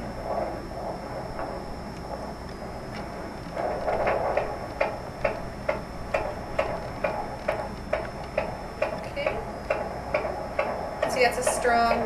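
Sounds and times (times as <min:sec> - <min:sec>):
doppler heartbeat pulsing: 0:00.0 - 0:12.0
faint high whine: 0:00.0 - 0:12.0.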